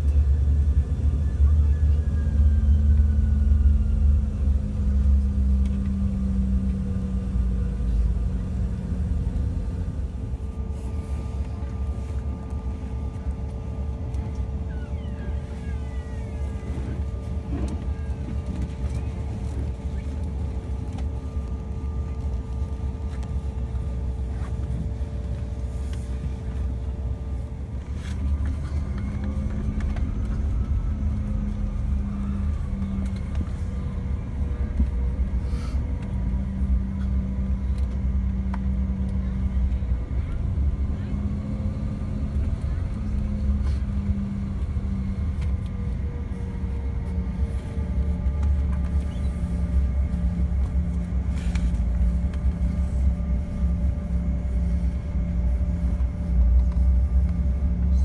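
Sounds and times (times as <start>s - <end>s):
droning hum: 0.0s - 58.0s
jet engines idling low rumble: 0.0s - 58.0s.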